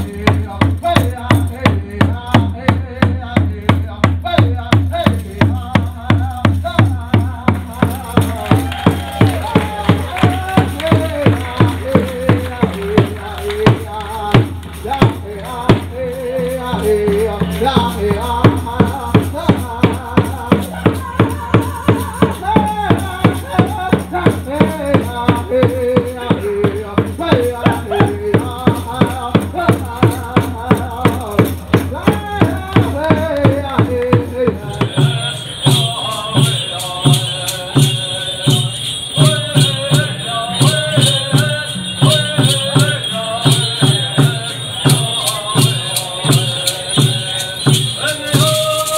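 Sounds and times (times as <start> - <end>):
steady percussive beat: 0.0 - 48.9
voices singing: 0.0 - 48.9
hand rattles shaking: 4.9 - 48.9.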